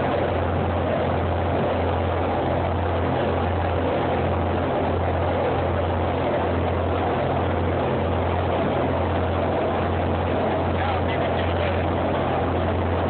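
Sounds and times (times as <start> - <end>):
boat engine droning: 0.0 - 13.0
wind and water rushing: 0.0 - 13.0.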